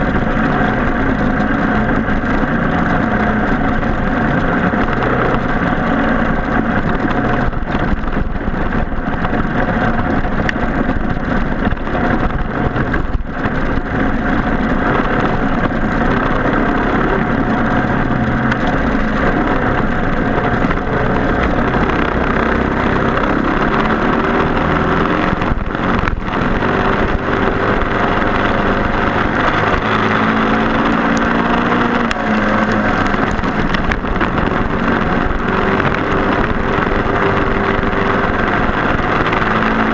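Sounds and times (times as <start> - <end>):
racing kart engines: 0.0 - 39.9.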